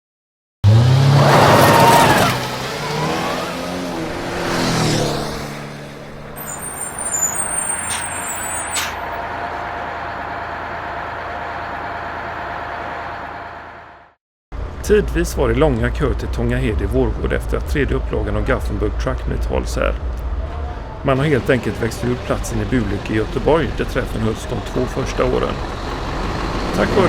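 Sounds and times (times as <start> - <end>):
truck engines revving: 0.6 - 27.0.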